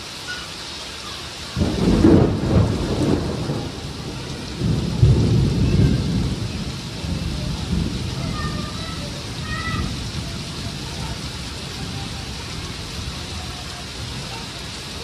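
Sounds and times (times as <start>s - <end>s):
heavy steady rain: 0.0s - 15.0s
thunder rumbling: 1.6s - 15.0s.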